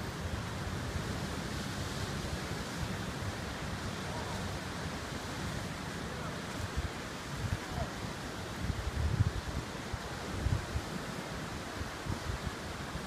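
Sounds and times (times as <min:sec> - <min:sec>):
surf breaking on rocky shore: 0:00.0 - 0:13.0
wind rumbling on microphone: 0:00.0 - 0:13.0.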